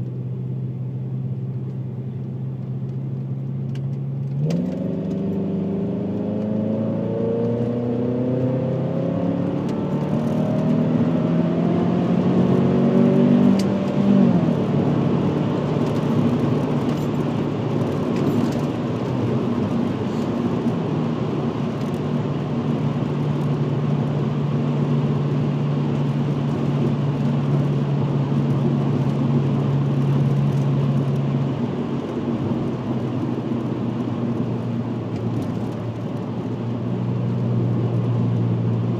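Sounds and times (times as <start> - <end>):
tyre and road noise: 1.4 - 38.9
car engine revving through exhaust: 4.0 - 38.9.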